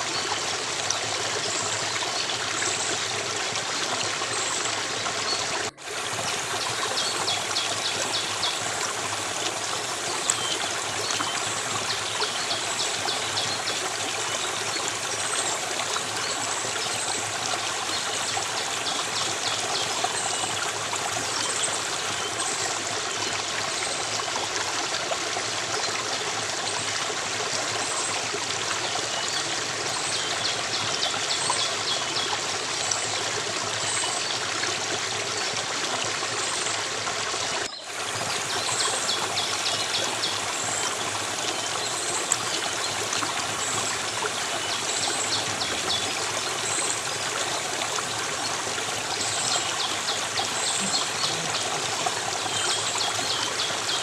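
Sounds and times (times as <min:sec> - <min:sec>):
stream flowing: 0:00.0 - 0:54.0.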